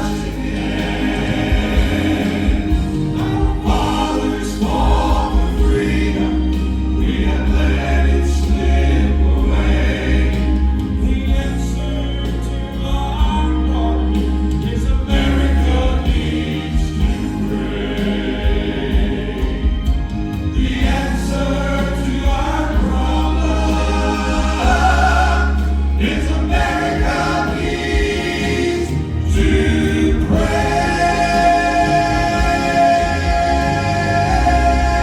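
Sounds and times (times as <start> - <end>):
gospel quartet singing in harmony: 0.0 - 35.0
instrumental accompaniment with bass line: 0.0 - 35.0.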